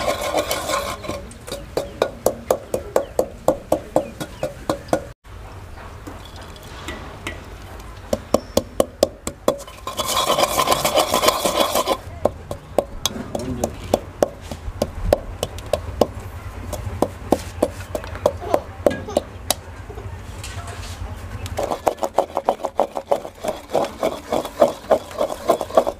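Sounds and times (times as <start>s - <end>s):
pestle knocking in mortar: 0.0s - 5.1s, 8.1s - 19.6s, 21.6s - 25.9s
pestle grinding in mortar: 0.0s - 5.2s, 6.1s - 19.6s, 21.5s - 25.9s.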